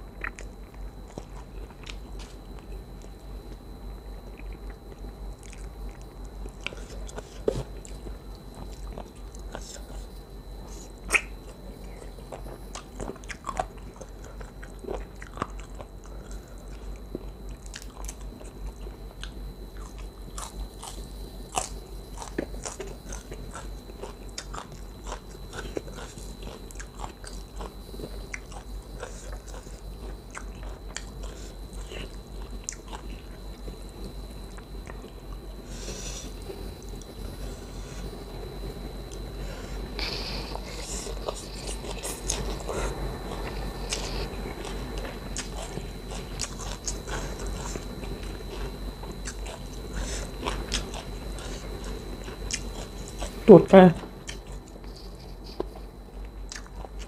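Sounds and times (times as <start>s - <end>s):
chewing with wet smacks and crunches: 0.0s - 57.0s.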